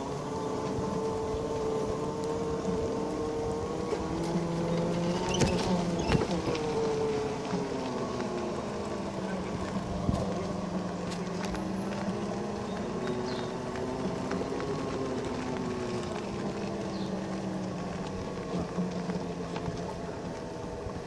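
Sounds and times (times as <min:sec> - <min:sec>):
electric motor whine: 0:00.0 - 0:21.0
wheels rolling on asphalt: 0:00.0 - 0:21.0.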